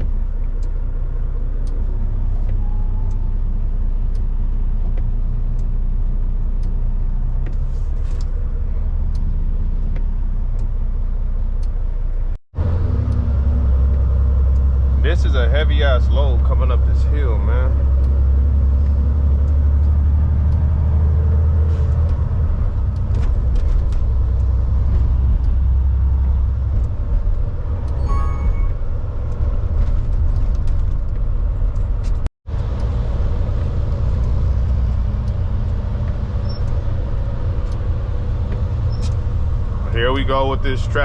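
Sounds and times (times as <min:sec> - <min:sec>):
diesel truck engine drone: 0:00.0 - 0:41.0.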